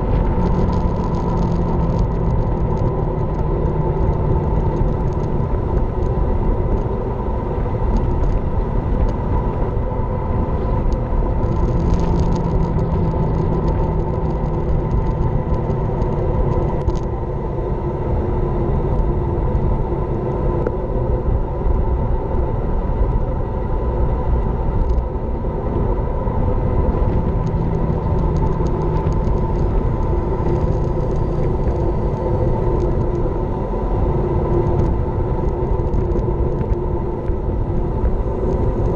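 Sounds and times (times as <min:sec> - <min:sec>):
bike tyres rumbling on asphalt: 0:00.0 - 0:38.9
wind rushing over microphone: 0:00.0 - 0:38.9.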